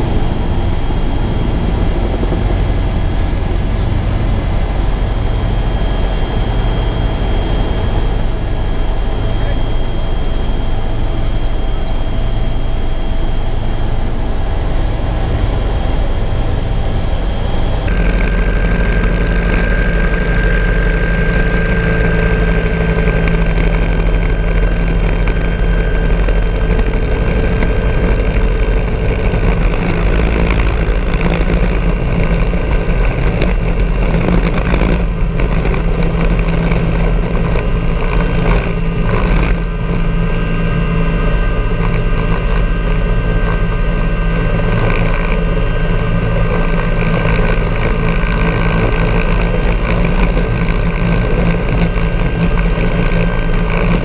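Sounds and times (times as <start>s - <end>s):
helicopter turbine and rotor: 0.0s - 54.0s.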